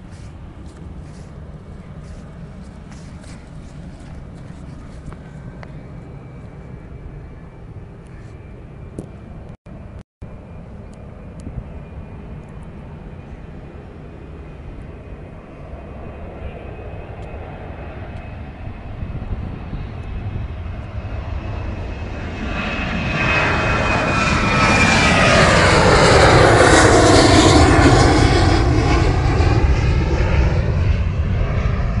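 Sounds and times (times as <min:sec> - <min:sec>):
jet engines passing: 0:00.0 - 0:32.0.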